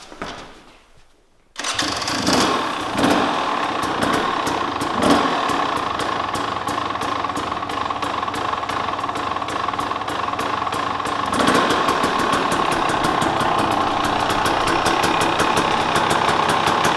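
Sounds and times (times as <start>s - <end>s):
two-stroke dirt bike engine: 1.6s - 16.9s.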